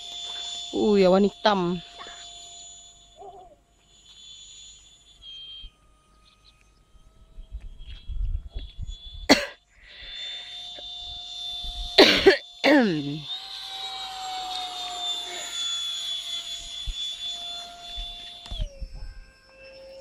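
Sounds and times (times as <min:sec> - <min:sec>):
model jet fan whine: 0:00.0 - 0:20.0.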